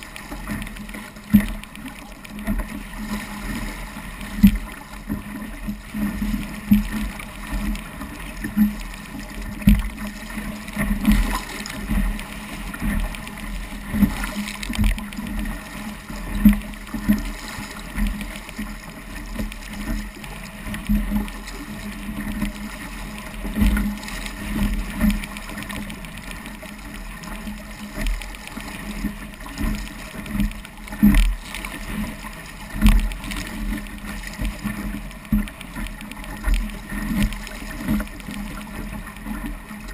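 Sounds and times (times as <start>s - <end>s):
dinghy hull slapping waves: 0.0s - 39.9s
water rushing along hull: 0.0s - 39.9s.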